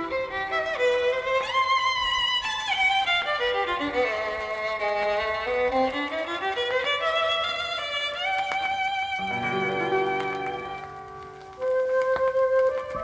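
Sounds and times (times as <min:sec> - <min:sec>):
gentle accompaniment: 0:00.0 - 0:13.0
violin melody: 0:00.0 - 0:13.0.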